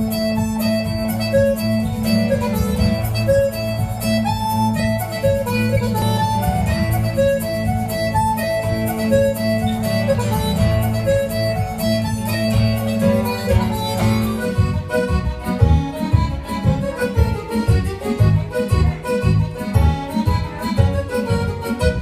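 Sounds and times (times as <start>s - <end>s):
reedy dance tune melody: 0.0s - 22.0s
steady dance beat: 0.0s - 22.0s.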